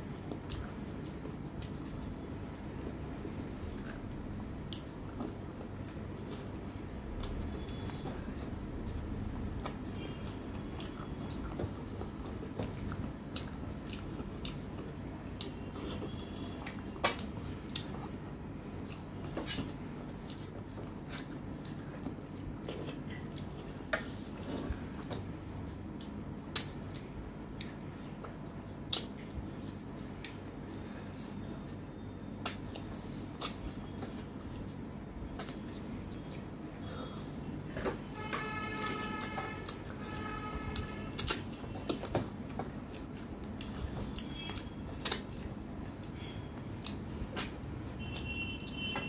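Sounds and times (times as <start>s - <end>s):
low background hum: 0.0s - 49.0s
chewing with wet mouth sounds: 0.1s - 49.0s.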